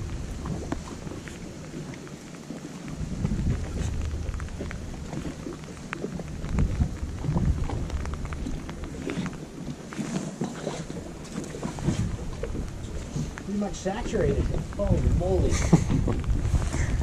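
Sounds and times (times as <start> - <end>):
raindrop ticks: 0.0 - 17.0
steady rain: 0.0 - 17.0
wind buffeting microphone: 0.0 - 17.0.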